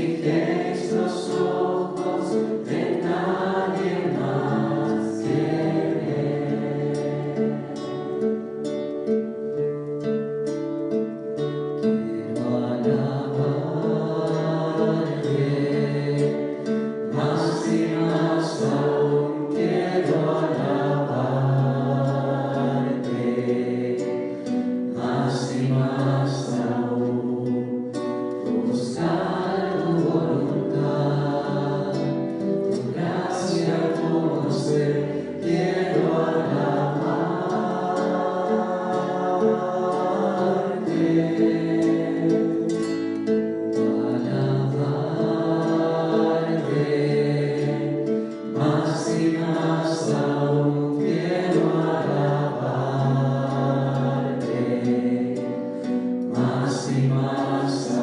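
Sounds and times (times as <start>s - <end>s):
choir singing worship music: 0.0s - 58.0s.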